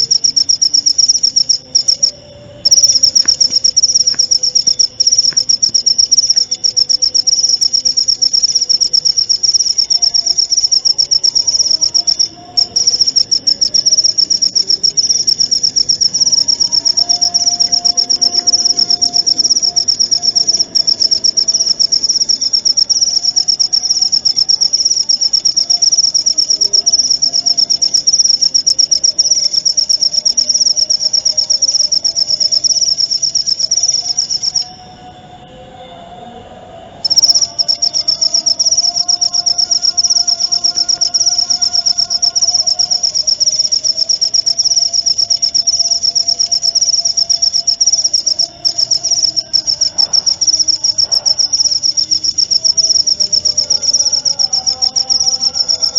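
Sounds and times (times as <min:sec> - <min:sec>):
fainter lower insect calls: 0:00.0 - 0:35.0, 0:37.0 - 0:55.9
cricket chirping trill: 0:00.0 - 0:35.9, 0:36.8 - 0:55.9.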